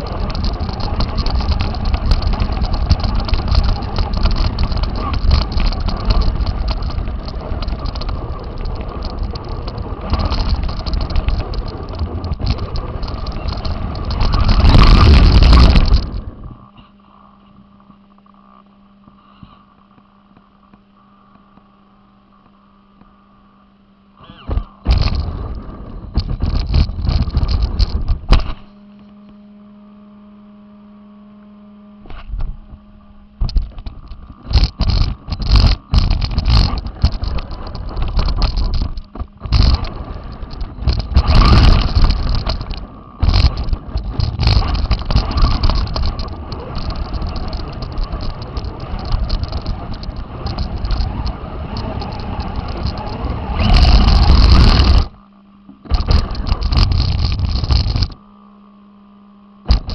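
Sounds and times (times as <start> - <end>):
rc car motor and tyre rattle: 0.0 - 20.8, 24.1 - 29.2, 32.0 - 58.2, 59.6 - 59.9
steady hum: 0.0 - 59.9.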